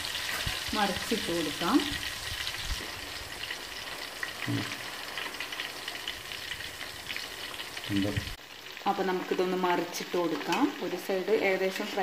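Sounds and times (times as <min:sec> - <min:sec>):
deep-frying sizzle and crackling: 0:00.0 - 0:12.0.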